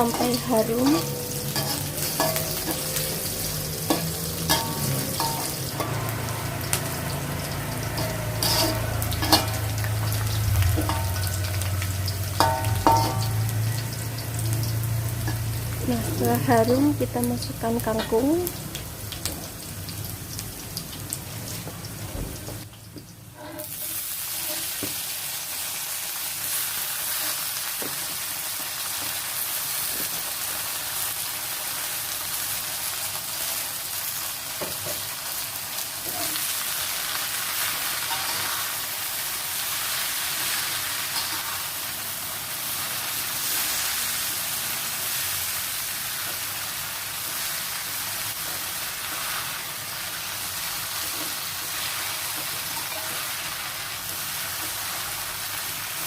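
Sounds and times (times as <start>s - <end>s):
vegetables sizzling in a frying pan: 0.0s - 56.0s.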